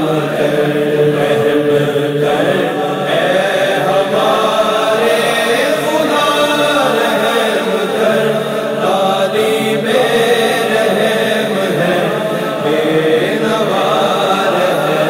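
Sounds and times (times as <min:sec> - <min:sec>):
humming vocal backing: 0:00.0 - 0:15.0
man singing devotional song: 0:00.0 - 0:15.0.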